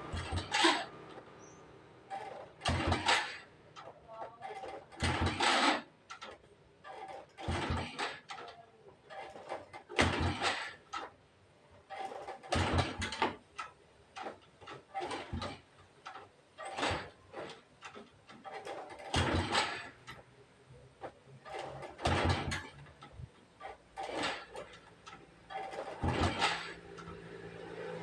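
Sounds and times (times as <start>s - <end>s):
motorbike kick-start clattering: 0.0s - 3.9s, 6.9s - 11.2s, 11.9s - 20.2s, 21.4s - 28.0s.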